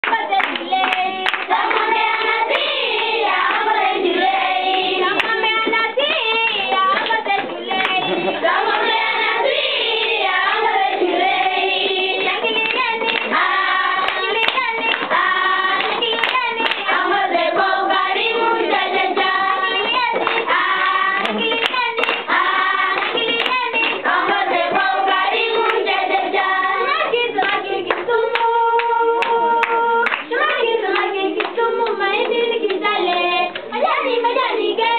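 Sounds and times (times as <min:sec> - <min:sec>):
hands clapping: 0:00.0 - 0:17.3, 0:17.9 - 0:34.9
children singing: 0:00.0 - 0:34.9.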